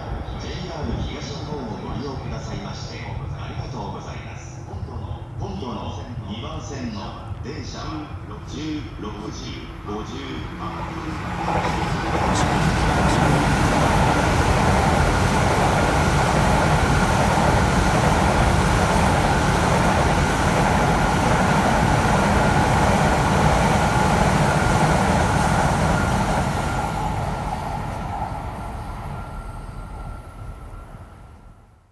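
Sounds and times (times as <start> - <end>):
high train whine: 0.0 - 31.9
trains rushing past: 0.0 - 31.9.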